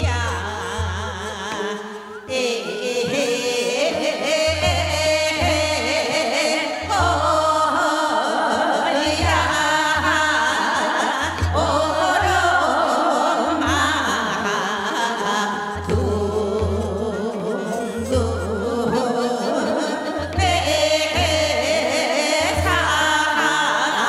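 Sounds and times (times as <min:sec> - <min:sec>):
woman singing folk song: 0:00.0 - 0:24.0.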